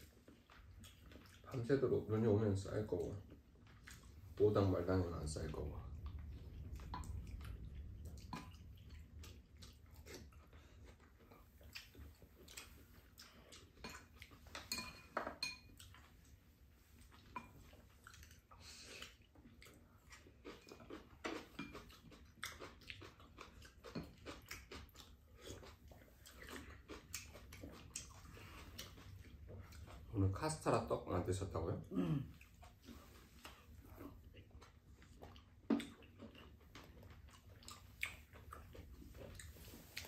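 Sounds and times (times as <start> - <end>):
chewing: 0.0 - 30.3, 32.1 - 40.0.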